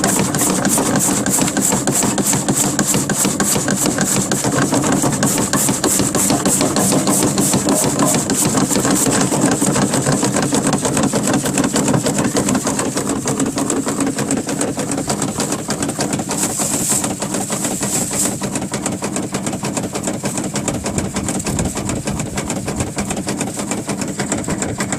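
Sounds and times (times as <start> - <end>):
shredding machine motor rattling: 0.0 - 24.9.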